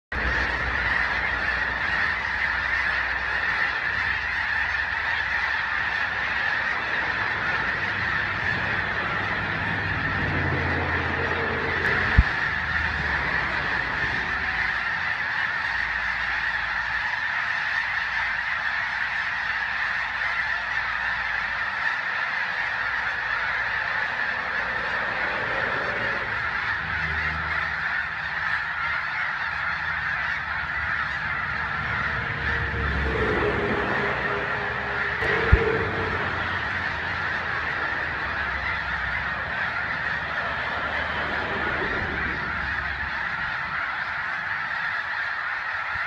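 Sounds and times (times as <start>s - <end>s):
geese honking: 0.0s - 46.0s.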